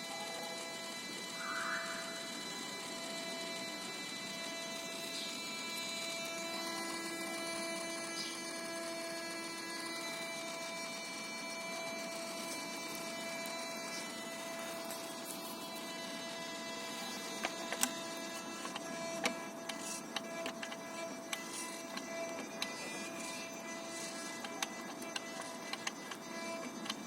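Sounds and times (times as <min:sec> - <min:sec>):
steady humming buzz: 0:00.0 - 0:27.0.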